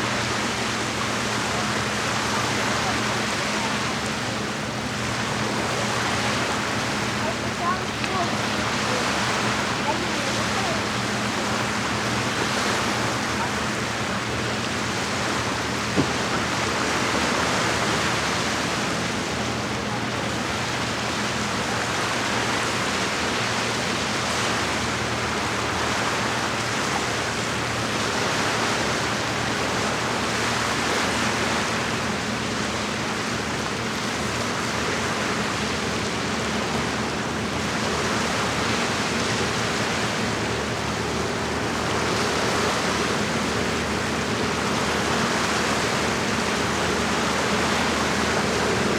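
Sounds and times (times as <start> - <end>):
water washing against shore: 0.0 - 48.9.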